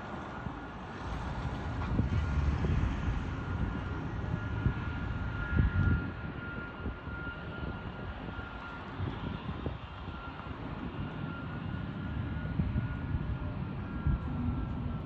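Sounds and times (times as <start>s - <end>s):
distant jet engine whine: 0.0s - 15.0s.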